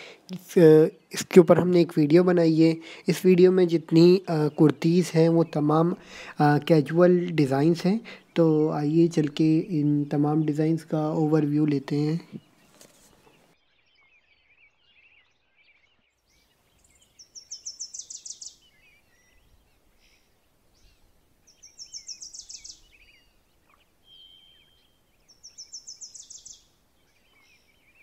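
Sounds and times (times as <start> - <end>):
bird singing falling phrase: 0.0 - 28.0
faint bird chirping: 0.0 - 28.0.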